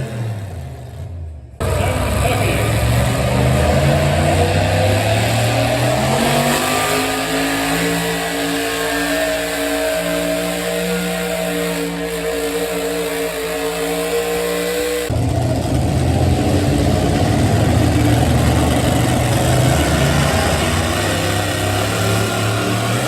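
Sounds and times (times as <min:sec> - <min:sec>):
deep rough engine: 0:00.0 - 0:23.0
truck engine at high revs: 0:00.0 - 0:23.0.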